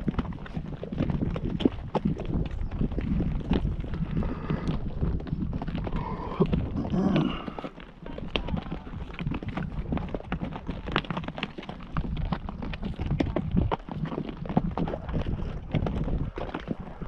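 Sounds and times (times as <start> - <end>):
horse hooves clopping: 0.0 - 17.0
wind rumbling on microphone: 0.0 - 17.0.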